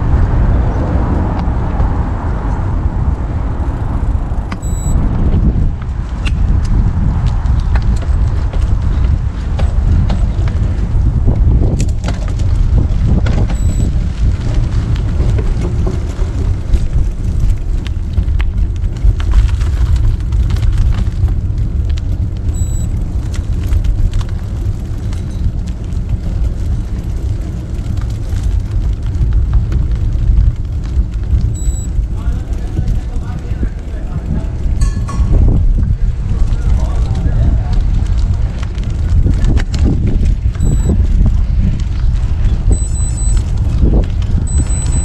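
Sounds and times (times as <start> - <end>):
road and wind noise: 0.0 - 45.0
vehicle rumble: 0.0 - 45.0.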